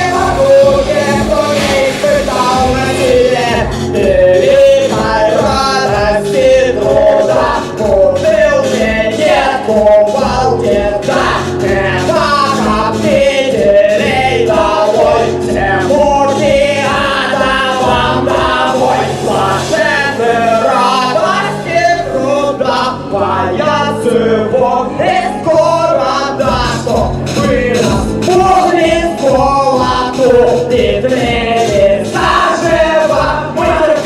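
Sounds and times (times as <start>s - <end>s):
men singing: 0.0s - 34.0s
steady beat and bass: 0.0s - 34.0s.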